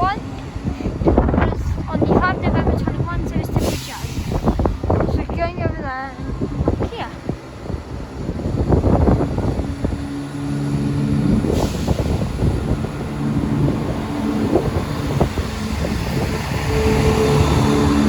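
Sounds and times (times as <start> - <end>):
train engines humming: 0.0 - 18.0.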